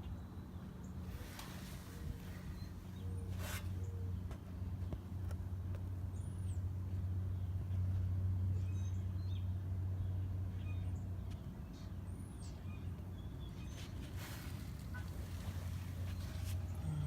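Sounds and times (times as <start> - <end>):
birds chirping: 0.0 - 5.1, 6.1 - 17.0.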